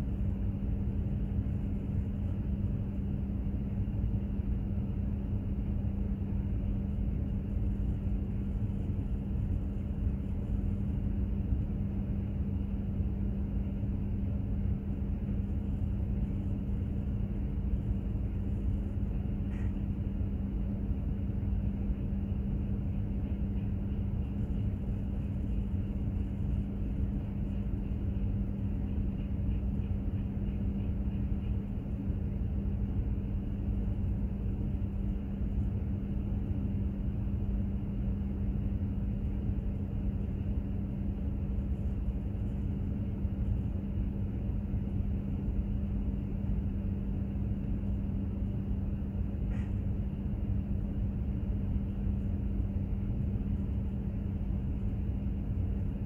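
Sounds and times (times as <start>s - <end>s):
constant droning hum: 0.0s - 56.0s.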